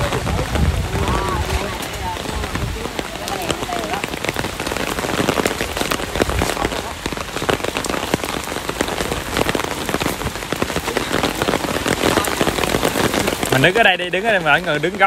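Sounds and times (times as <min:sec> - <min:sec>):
rain on umbrellas: 0:00.0 - 0:15.0.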